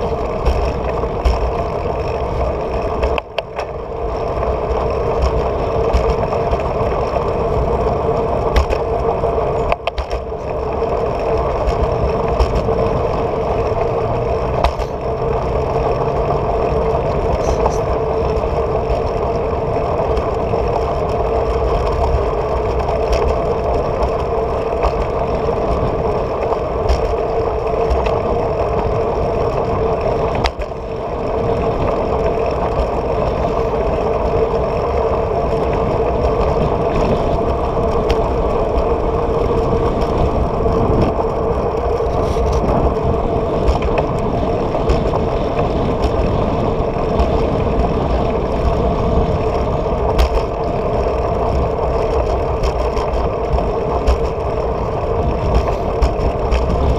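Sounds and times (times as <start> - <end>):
constant hum: 0.0 - 56.9
road rumble: 0.0 - 56.9
wind noise: 0.0 - 56.9.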